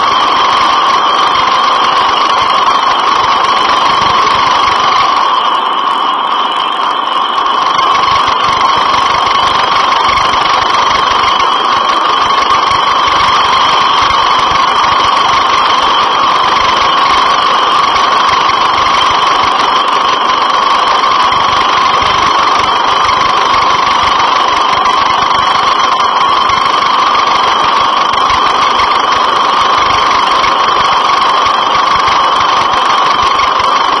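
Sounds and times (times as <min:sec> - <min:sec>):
helicopter running: 0:00.0 - 0:34.0.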